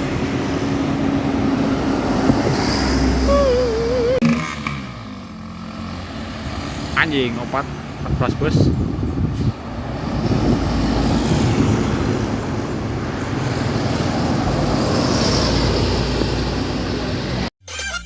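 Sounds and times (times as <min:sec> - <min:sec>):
engine rumble and tyre noise: 0:00.0 - 0:17.5
tour buses passing: 0:00.0 - 0:17.5.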